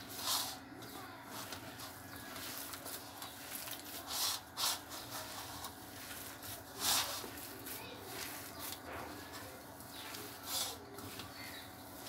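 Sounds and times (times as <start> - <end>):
hands squishing mashed potato: 0.0 - 12.0.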